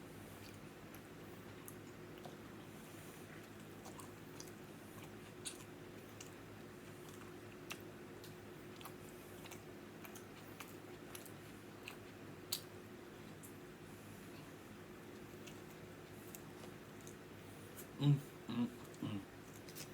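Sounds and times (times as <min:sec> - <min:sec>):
steady low hum: 0:00.0 - 0:19.9
chewing food: 0:00.3 - 0:13.6, 0:14.2 - 0:18.0, 0:18.8 - 0:19.9.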